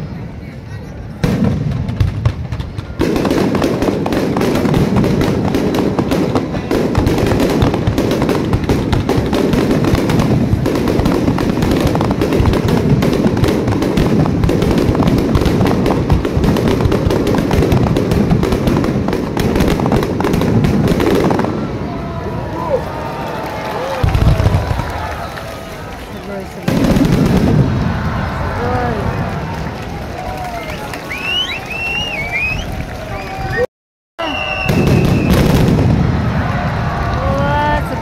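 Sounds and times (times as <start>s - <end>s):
fireworks bursting: 1.0s - 22.9s, 23.5s - 29.7s, 30.6s - 33.6s, 34.2s - 38.0s.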